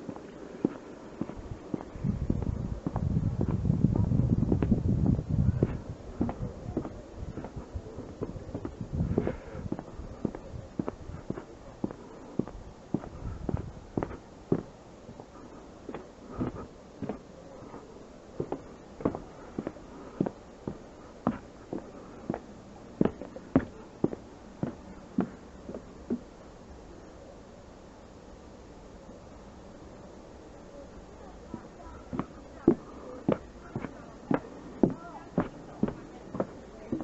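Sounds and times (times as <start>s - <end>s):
footsteps walking: 0.0s - 3.6s, 5.5s - 26.3s, 31.5s - 37.0s.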